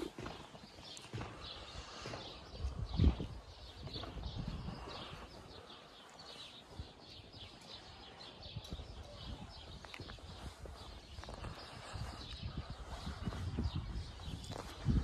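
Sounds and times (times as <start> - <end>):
footsteps on dirt path: 0.0 - 15.0
small birds chirping: 0.0 - 15.0.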